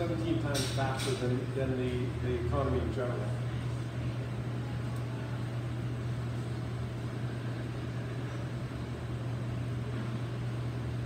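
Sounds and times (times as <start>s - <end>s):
ventilation hum and air hiss: 0.0s - 11.0s.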